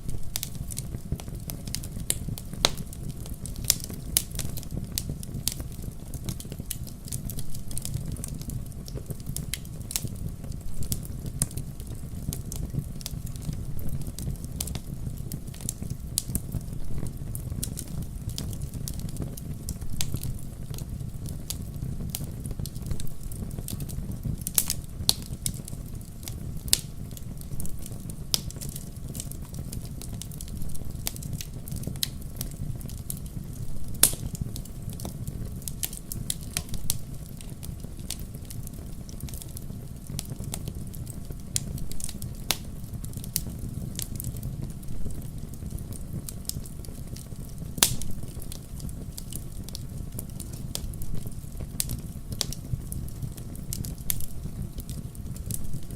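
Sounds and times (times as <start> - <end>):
wood fire crackling in fireplace: 0.0 - 55.9.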